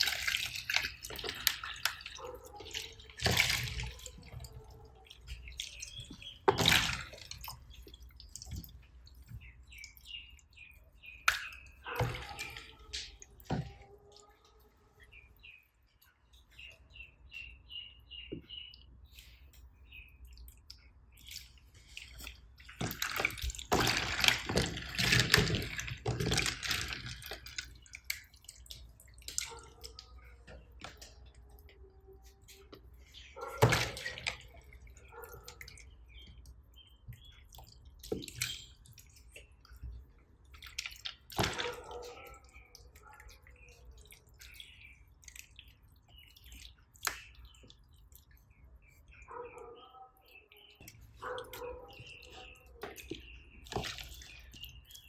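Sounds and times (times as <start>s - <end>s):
slime squelching and crackling: 0.0s - 15.5s, 18.6s - 49.4s.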